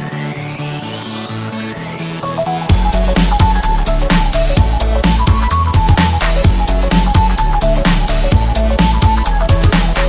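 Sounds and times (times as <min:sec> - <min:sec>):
electronic music with driving beat: 0:00.0 - 0:10.0.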